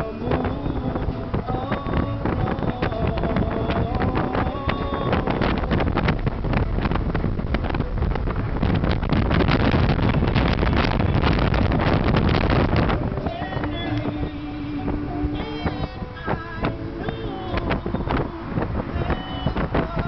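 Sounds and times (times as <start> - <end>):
road noise: 0.0 - 20.0
wind buffeting microphone: 0.0 - 20.0.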